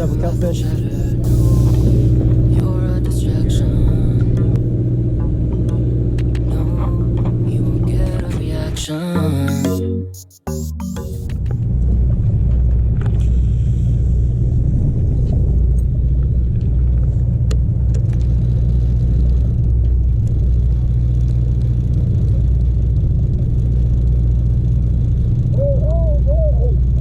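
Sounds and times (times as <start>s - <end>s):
boat engine running: 0.0s - 9.7s, 11.0s - 27.0s.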